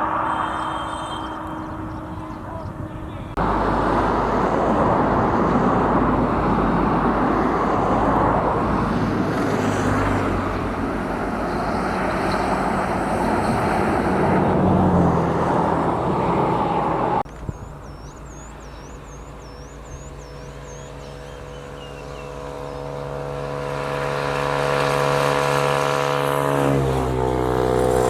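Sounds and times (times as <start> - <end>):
loud road noise: 0.0 - 28.0
vehicle engine hum: 0.0 - 28.0.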